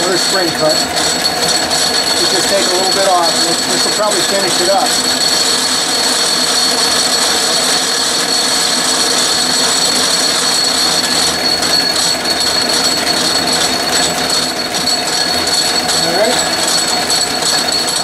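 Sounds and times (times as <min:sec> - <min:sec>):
metal lathe whirring: 0:00.0 - 0:18.0.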